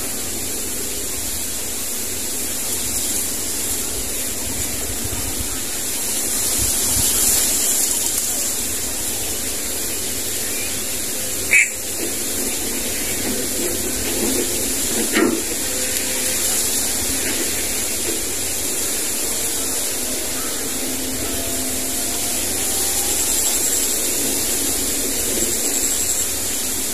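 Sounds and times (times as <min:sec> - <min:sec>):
hissing outdoor background noise: 0:00.0 - 0:26.9.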